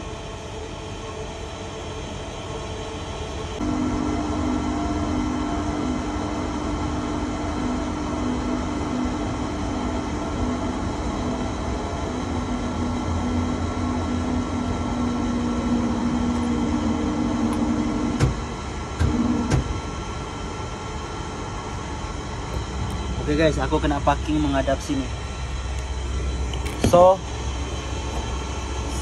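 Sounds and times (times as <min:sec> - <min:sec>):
crane drive humming: 0:00.0 - 0:29.0.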